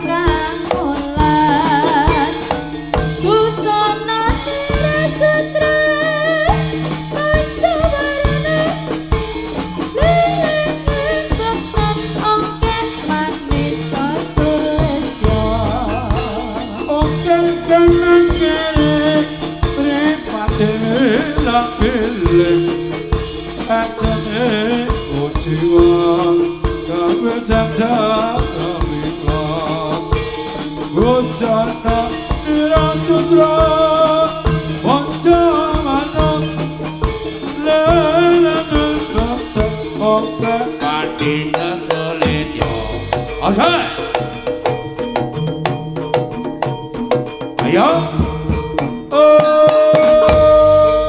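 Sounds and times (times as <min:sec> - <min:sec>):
person singing: 0:00.0 - 0:09.0, 0:09.9 - 0:44.5, 0:47.6 - 0:51.0
drums beating: 0:00.0 - 0:51.0.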